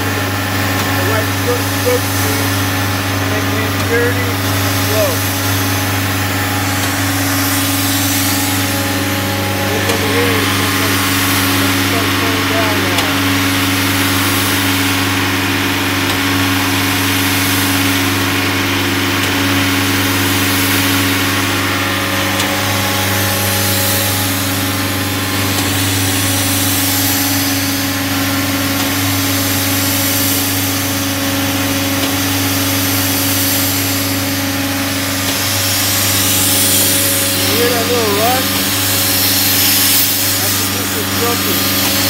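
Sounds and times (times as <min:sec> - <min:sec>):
air hissing: 0:00.0 - 0:15.2, 0:22.2 - 0:42.0
generator mechanical hum: 0:00.0 - 0:42.0.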